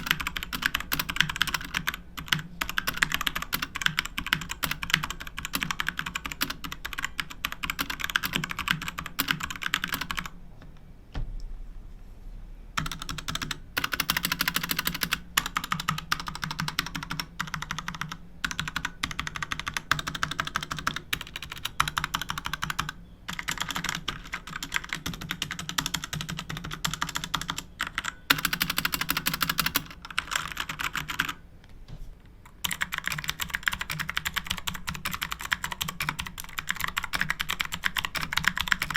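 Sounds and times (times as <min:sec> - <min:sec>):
typing on mechanical keyboard: 0:00.0 - 0:10.3, 0:12.8 - 0:31.4, 0:32.5 - 0:38.9.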